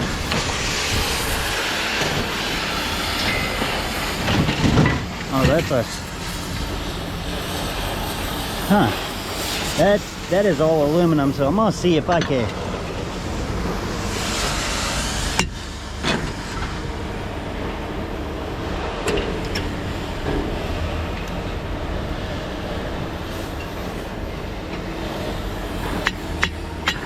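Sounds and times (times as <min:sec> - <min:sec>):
machinery rumbling: 0:00.0 - 0:27.0.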